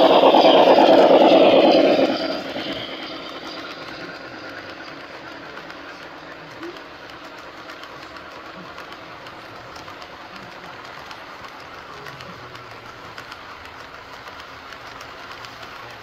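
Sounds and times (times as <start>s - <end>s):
model train cars rumbling: 0.0s - 16.0s
wheels clicking: 0.0s - 16.0s.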